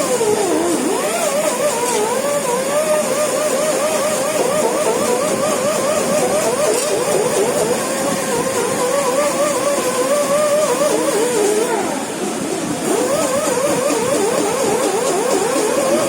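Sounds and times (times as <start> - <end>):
electric fish scaler whining: 0.0 - 16.0.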